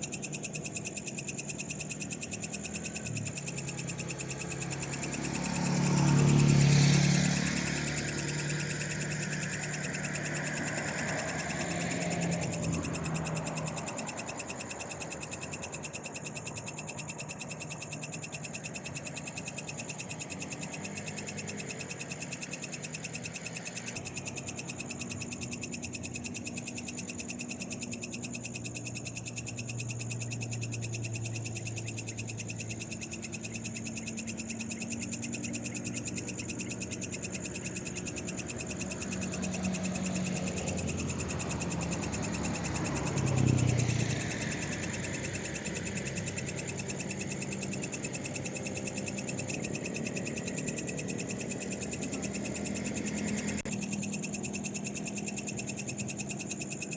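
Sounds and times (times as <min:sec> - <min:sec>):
frogs and insects trilling: 0:00.0 - 0:56.9.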